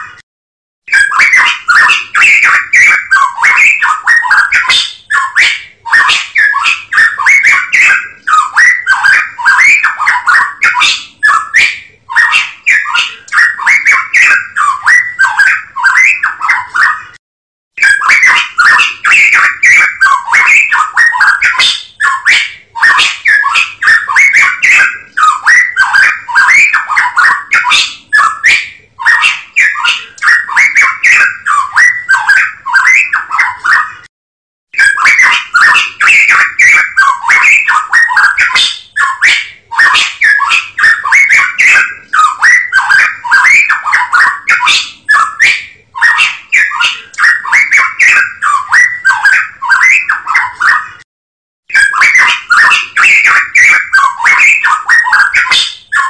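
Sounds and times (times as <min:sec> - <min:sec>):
songbird singing: 0:00.9 - 0:17.1, 0:17.8 - 0:33.9, 0:34.8 - 0:50.8, 0:51.7 - 0:56.0.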